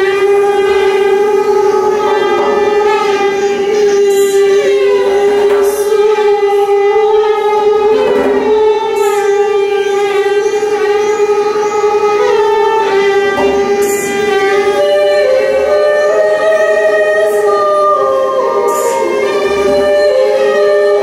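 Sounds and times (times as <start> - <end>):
violin sustained bowed note: 0.0 - 21.0.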